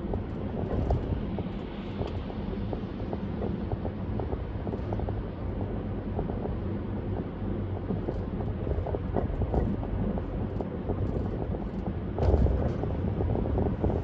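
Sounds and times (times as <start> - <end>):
car tyres and engine rumble: 0.0 - 14.0.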